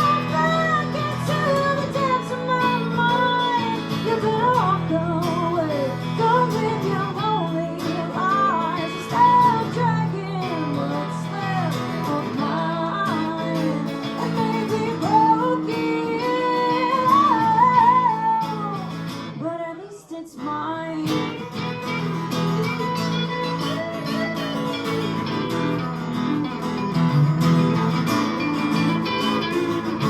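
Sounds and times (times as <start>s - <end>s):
acoustic guitar: 0.0s - 30.0s.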